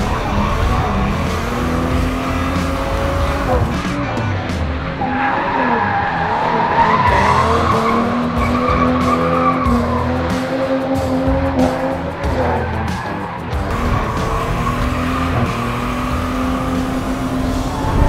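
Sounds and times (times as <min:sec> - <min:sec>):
engine at high revs: 0:00.0 - 0:18.0
tyres skidding and squealing: 0:00.0 - 0:18.0.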